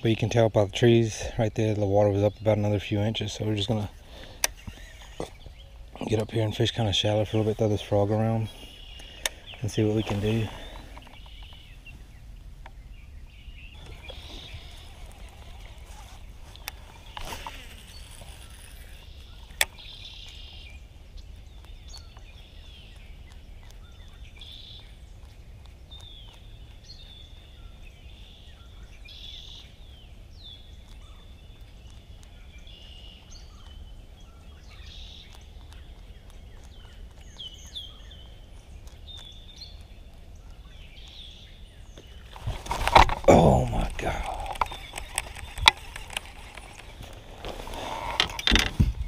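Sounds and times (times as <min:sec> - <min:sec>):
wild birds chirping: 0:00.0 - 0:49.0.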